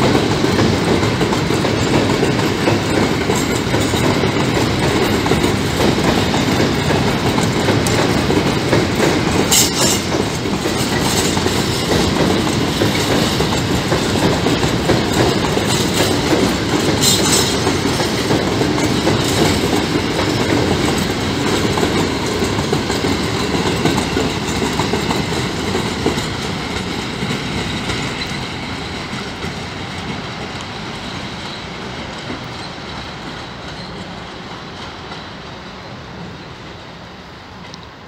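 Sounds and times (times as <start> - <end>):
freight train wheels clicking: 0.0 - 38.0.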